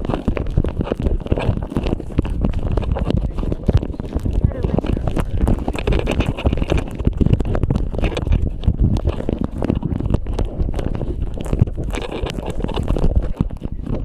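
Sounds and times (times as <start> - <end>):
rubbing on microphone: 0.0 - 14.0
scrapes and knocks: 0.0 - 14.0
wind rumble on microphone: 0.0 - 14.0.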